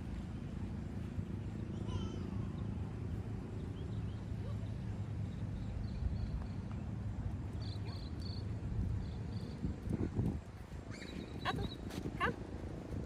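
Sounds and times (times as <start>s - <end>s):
low outdoor background rumble: 0.0s - 13.0s.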